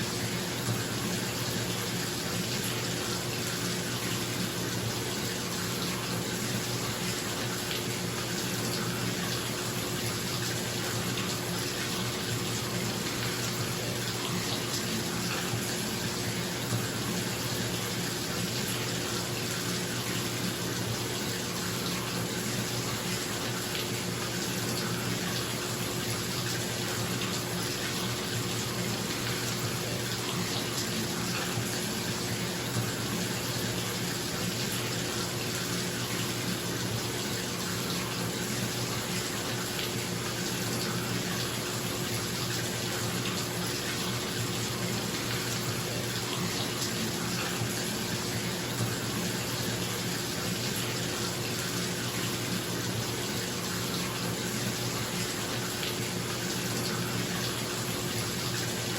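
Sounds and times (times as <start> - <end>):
water pouring into bathtub: 0.0 - 58.9.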